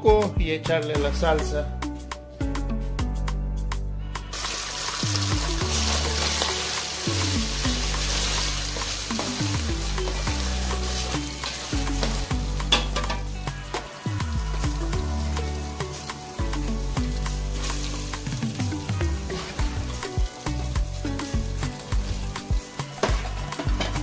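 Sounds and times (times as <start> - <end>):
chicken sizzling in hot oil: 4.2 - 24.0.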